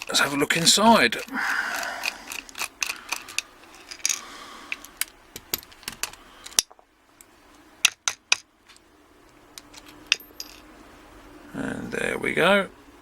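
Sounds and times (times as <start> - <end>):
padlock parts clicking and clinking: 0.0 - 10.7.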